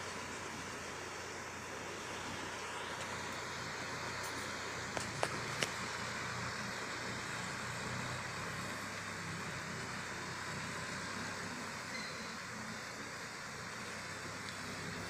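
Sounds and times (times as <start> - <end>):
distant tractor engine: 0.0 - 15.0.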